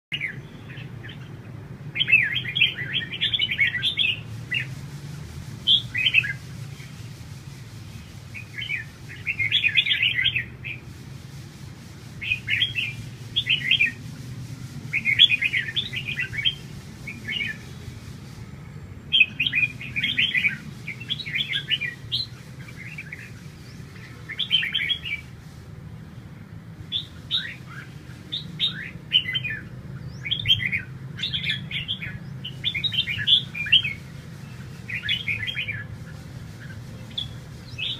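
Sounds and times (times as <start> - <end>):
birds singing: 0.1 - 37.9.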